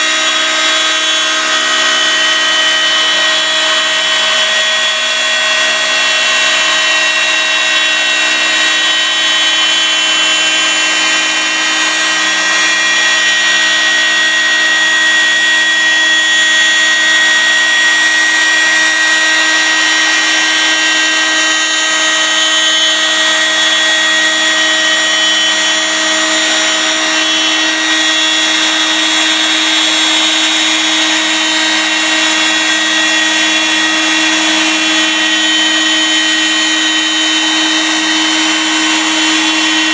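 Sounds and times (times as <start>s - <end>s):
milling machine spindle whine: 0.0s - 39.9s.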